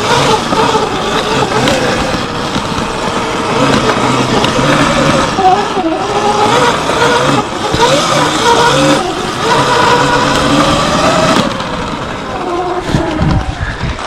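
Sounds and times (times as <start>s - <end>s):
electric motor whining: 0.0s - 14.0s
wind and riding noise: 0.0s - 14.0s.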